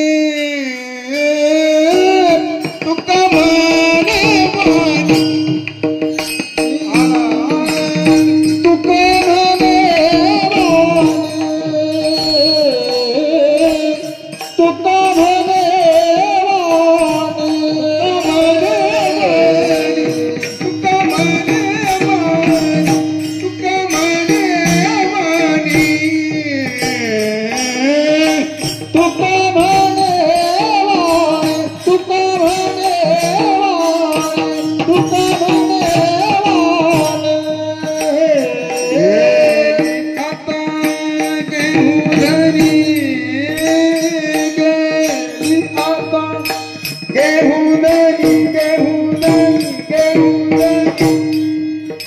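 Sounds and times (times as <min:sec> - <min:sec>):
person singing: 0:00.0 - 0:05.6, 0:06.6 - 0:52.0
light percussion: 0:00.0 - 0:52.0.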